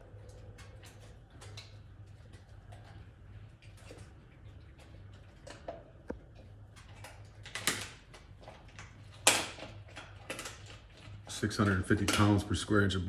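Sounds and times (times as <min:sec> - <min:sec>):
dog chewing and gnawing: 0:00.0 - 0:12.6
low steady hum: 0:00.0 - 0:13.0.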